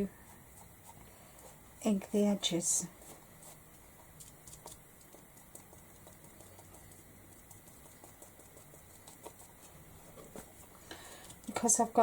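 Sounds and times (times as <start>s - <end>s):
sponge dabbing on canvas: 0.0s - 12.0s.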